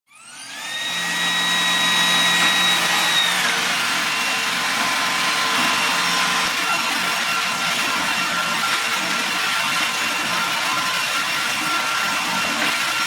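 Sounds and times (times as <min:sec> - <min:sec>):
robot vacuum motor whine: 0:00.1 - 0:13.0
suction and brush noise: 0:00.6 - 0:13.0.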